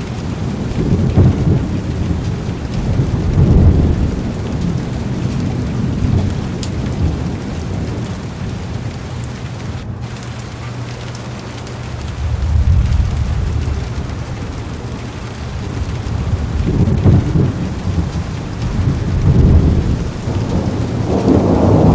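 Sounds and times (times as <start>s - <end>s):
rolling thunder: 0.0s - 10.6s, 11.8s - 21.9s
heavy rain on car: 0.0s - 21.9s.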